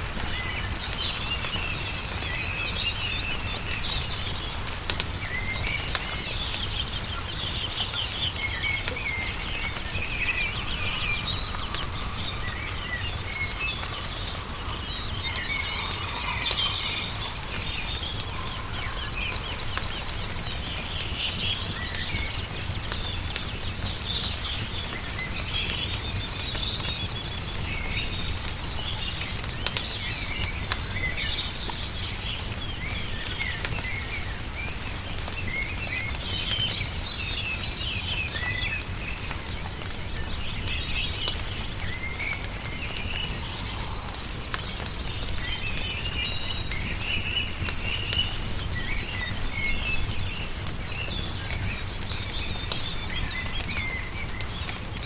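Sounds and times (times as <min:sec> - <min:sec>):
songbirds chirping and trilling: 0:00.0 - 0:55.0
wood fire crackling: 0:00.0 - 0:55.0.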